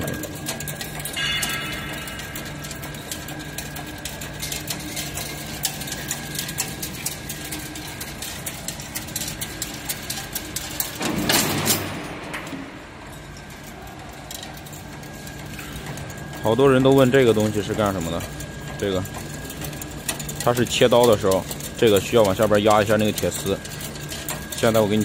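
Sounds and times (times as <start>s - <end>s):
machine motor hum: 0.0s - 25.0s.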